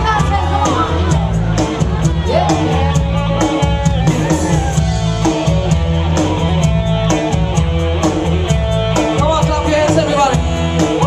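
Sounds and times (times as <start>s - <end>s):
drum kit beat: 0.0s - 11.0s
electric guitar: 0.0s - 11.0s.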